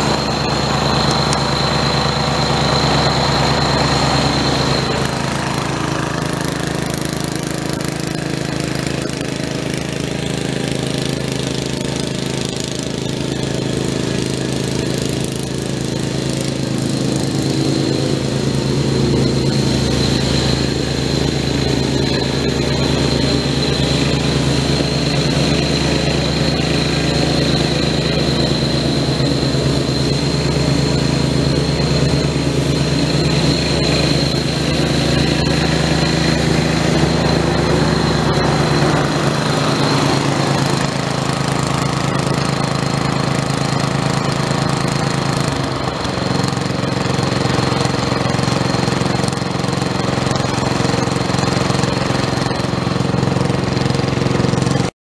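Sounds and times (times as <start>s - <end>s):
riding mower engine running: 0.0s - 54.9s
thin steady whine: 0.0s - 54.9s.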